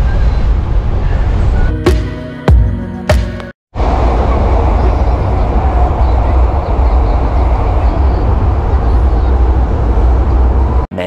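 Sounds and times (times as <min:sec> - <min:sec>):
vehicle rumbling in motion: 0:00.0 - 0:01.8, 0:03.8 - 0:10.9.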